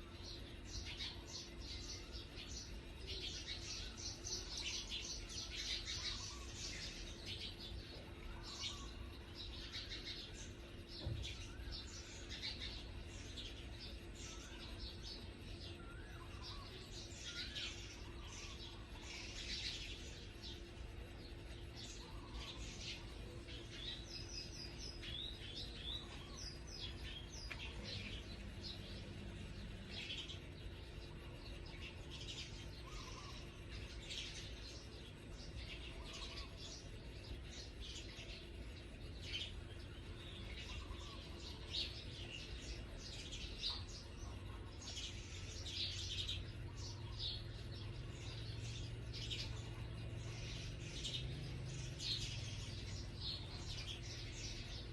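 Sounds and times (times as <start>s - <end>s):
birds chirping: 0.0s - 54.9s
faint constant hum: 0.0s - 54.9s.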